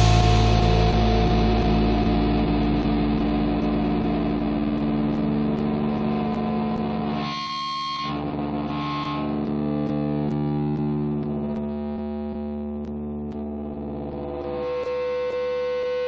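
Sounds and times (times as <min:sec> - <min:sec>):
distorted guitar chord ringing: 0:00.0 - 0:16.0.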